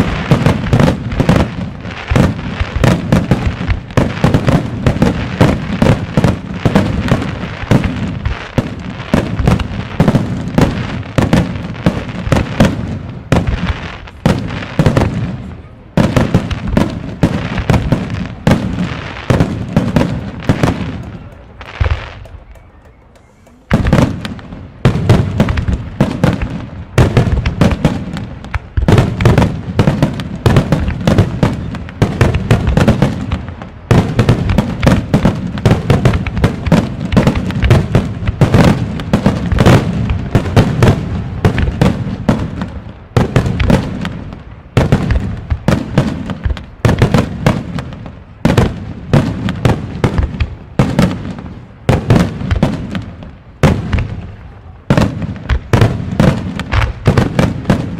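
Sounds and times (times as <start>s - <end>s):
fireworks bursting: 0.0s - 57.9s.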